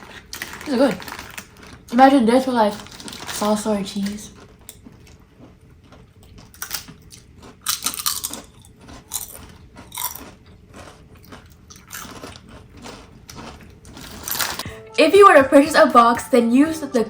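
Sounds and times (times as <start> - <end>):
chips being chewed: 0.0 - 2.0, 2.7 - 14.6.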